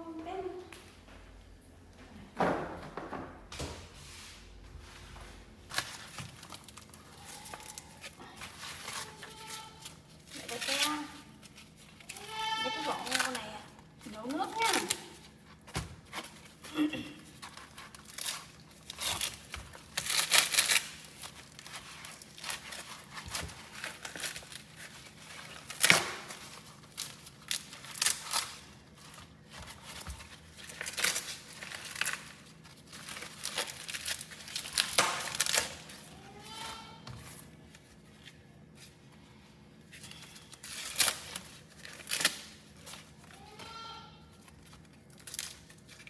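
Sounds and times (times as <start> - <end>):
corn husks tearing: 5.7 - 46.0.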